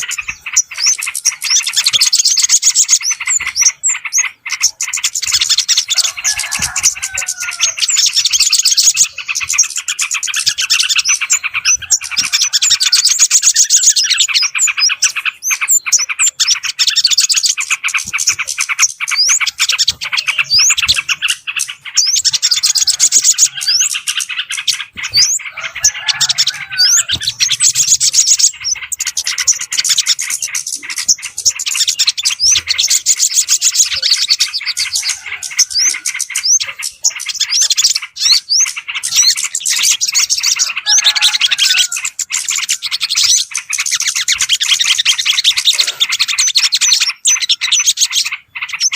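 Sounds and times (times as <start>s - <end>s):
many small birds chirping: 0.0s - 48.9s.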